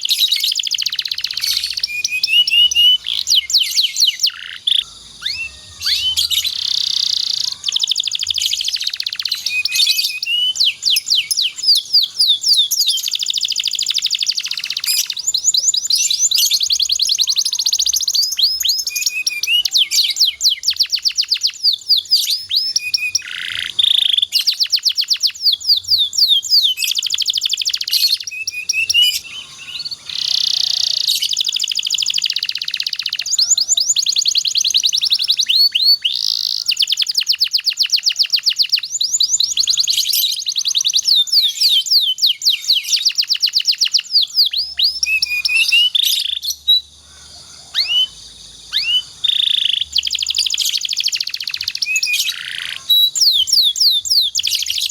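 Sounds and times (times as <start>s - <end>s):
canary singing fast trills: 0.0s - 54.9s.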